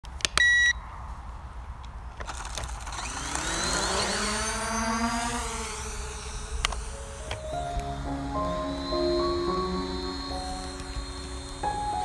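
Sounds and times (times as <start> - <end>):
quadcopter motors whining: 2.2 - 12.0.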